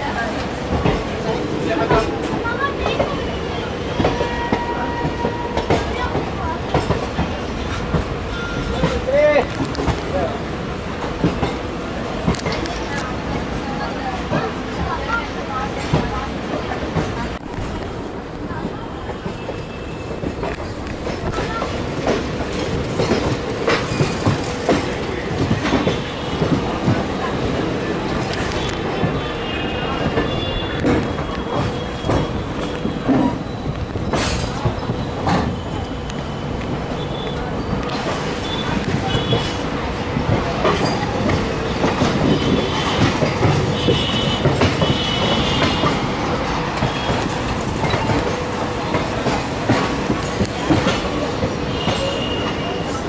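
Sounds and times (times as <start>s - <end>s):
train coaches rumbling on track: 0.0s - 53.0s.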